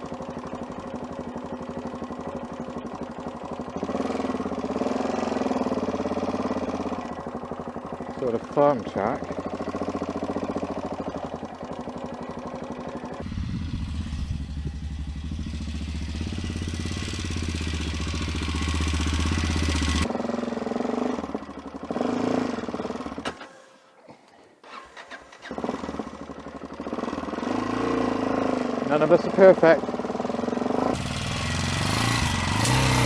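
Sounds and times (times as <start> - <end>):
motorcycle engine running: 0.0 - 23.4, 25.4 - 33.0.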